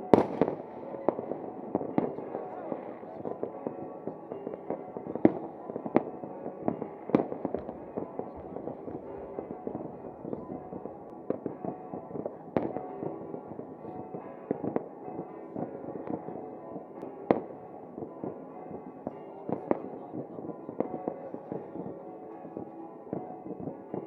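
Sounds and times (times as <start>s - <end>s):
fireworks bangs and pops: 0.1s - 16.4s, 17.0s - 24.0s.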